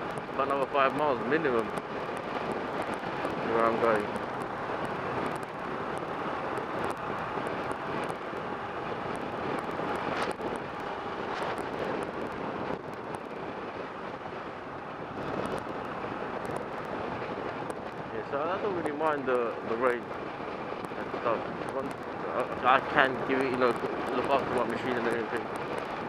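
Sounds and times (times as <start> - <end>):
motorcycle engine and wind rush: 0.0 - 26.0
wind buffeting microphone: 0.0 - 26.0.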